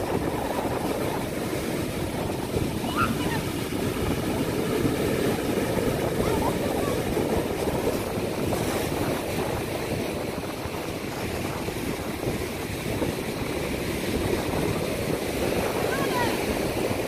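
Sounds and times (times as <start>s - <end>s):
water: 0.0s - 17.0s
wind buffeting microphone: 0.0s - 17.0s.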